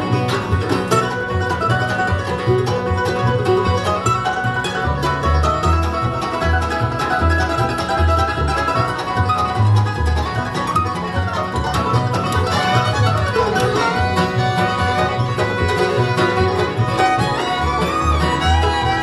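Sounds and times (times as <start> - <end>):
bluegrass band instrumental: 0.0 - 19.0
upright bass notes: 0.0 - 19.0.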